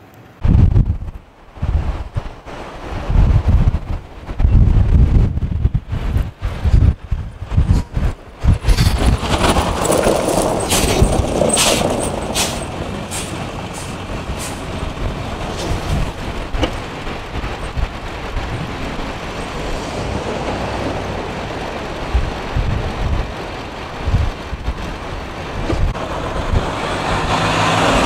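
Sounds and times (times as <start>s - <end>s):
vehicles driving through snow: 0.0s - 28.0s
wind buffeting microphone: 0.4s - 28.0s.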